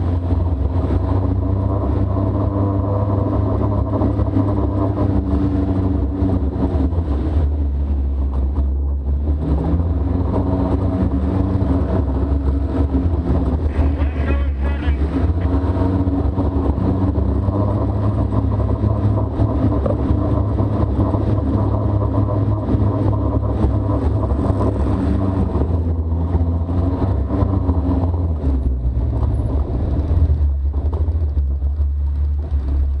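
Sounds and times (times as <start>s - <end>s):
engine droning with deep rumble: 0.0s - 33.0s.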